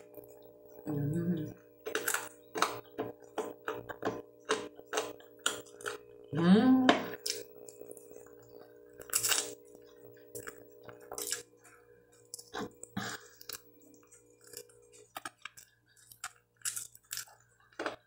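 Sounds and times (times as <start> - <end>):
person chewing food: 0.0 - 6.3, 7.1 - 18.0.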